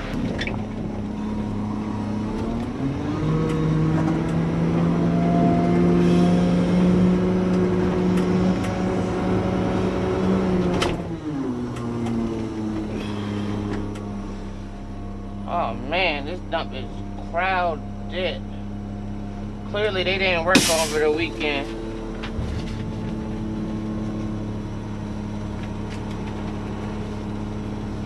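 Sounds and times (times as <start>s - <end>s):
truck engine idling and revving: 0.0s - 28.0s.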